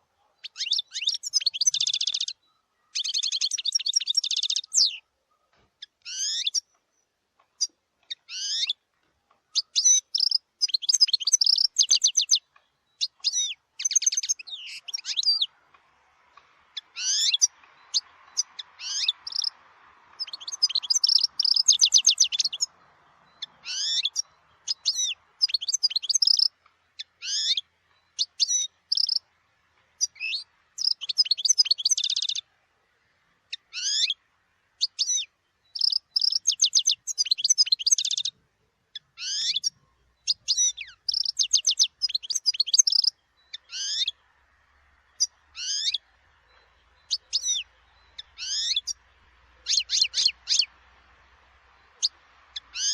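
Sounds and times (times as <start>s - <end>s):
goldfinch singing: 0.4s - 5.1s, 5.8s - 8.8s, 9.4s - 32.5s, 33.5s - 52.9s.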